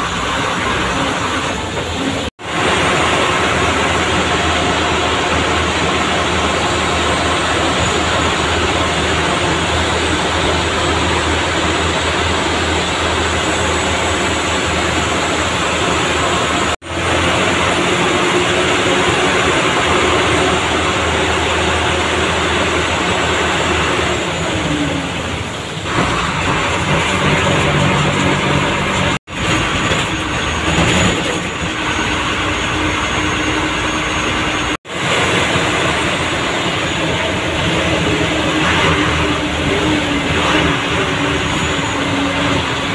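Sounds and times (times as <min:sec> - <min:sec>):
bus diesel engine running: 0:00.0 - 0:42.9
tyre noise on wet road: 0:00.0 - 0:42.9.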